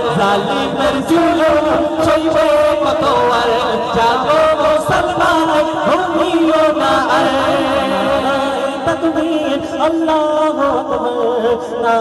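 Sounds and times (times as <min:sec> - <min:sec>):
two men singing into microphones: 0:00.0 - 0:12.0.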